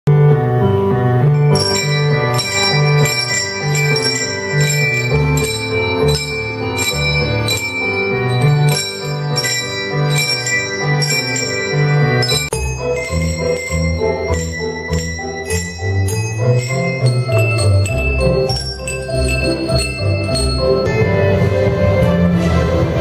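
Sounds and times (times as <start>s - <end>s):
handbells playing a tune: 1.3s - 22.1s.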